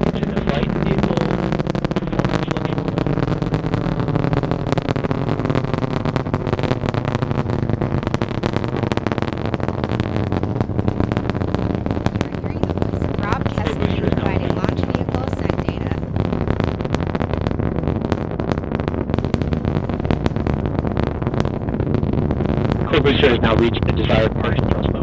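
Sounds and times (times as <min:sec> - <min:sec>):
rocket engines crackling rumble: 0:00.0 - 0:25.0.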